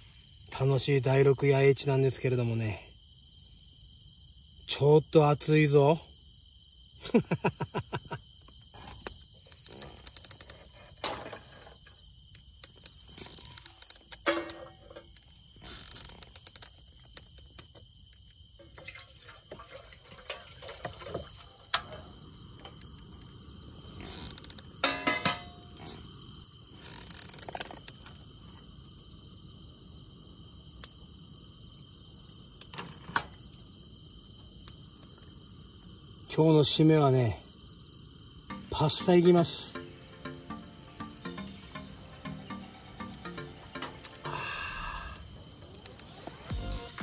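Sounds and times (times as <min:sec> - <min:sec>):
faint high-pitched insect drone: 0:00.0 - 0:47.0.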